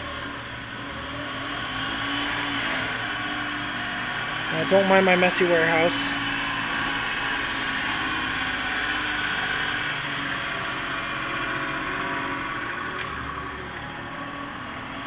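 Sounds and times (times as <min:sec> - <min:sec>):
small truck engine idling: 0:00.0 - 0:15.0.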